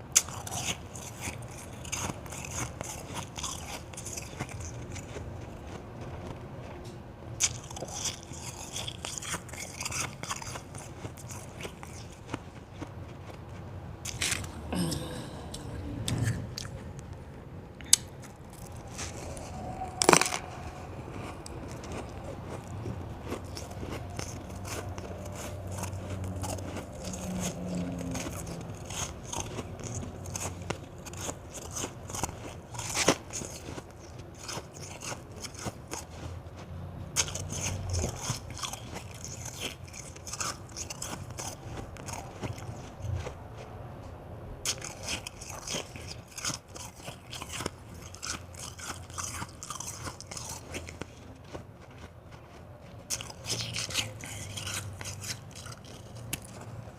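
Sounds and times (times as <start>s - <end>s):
person crunching ice: 0.1s - 6.2s, 7.4s - 13.2s, 14.0s - 15.5s, 17.9s - 36.4s, 37.2s - 43.0s, 44.7s - 56.8s.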